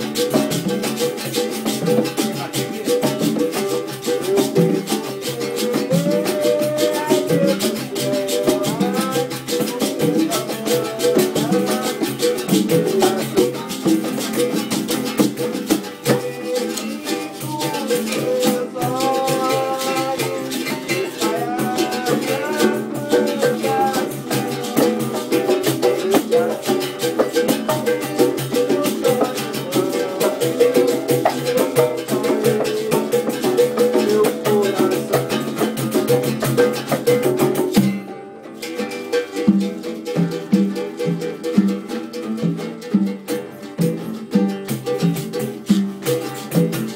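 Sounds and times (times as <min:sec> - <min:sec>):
acoustic guitar: 0:00.0 - 0:46.9
berimbau: 0:00.0 - 0:46.9
congas: 0:00.0 - 0:46.9
rattling percussion: 0:00.0 - 0:46.9.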